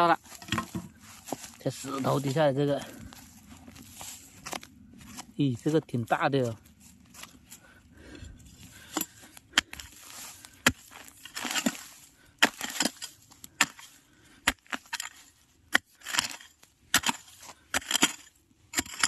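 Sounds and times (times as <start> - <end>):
hoe striking stony soil: 0.0 - 3.2, 3.9 - 5.7, 8.7 - 19.0
hoe scraping soil: 0.0 - 19.0.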